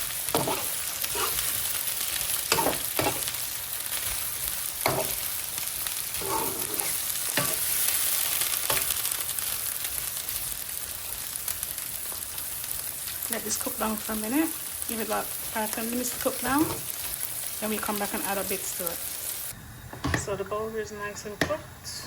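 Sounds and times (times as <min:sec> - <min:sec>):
chickpeas sizzling in a pan: 0:00.0 - 0:19.6.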